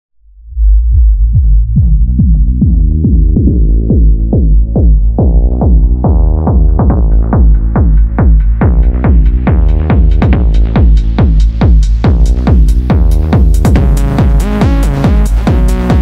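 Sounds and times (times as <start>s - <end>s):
deep synth bass: 0.1s - 16.0s.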